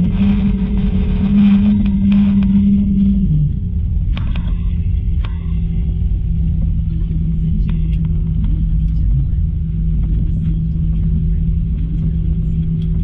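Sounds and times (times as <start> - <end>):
jet engine cabin rumble: 0.0 - 13.0
steady hum: 0.0 - 13.0.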